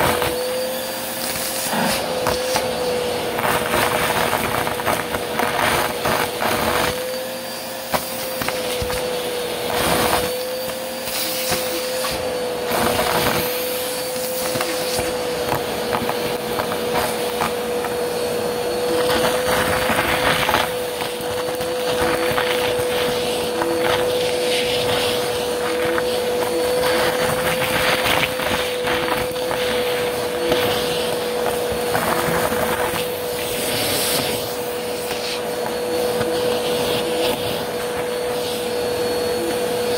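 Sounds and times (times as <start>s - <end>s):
debris rattling up vacuum hose: 0.0s - 39.9s
vacuum cleaner whine: 0.0s - 39.9s.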